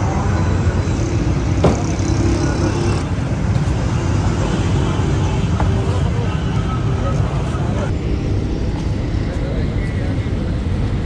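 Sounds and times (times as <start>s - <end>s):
low rumble of vehicles: 0.0s - 11.0s.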